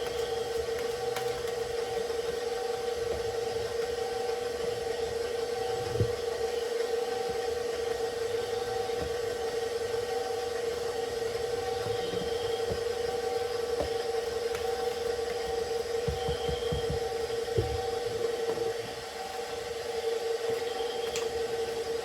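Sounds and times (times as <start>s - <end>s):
electric mixer motor whining: 0.0s - 22.0s.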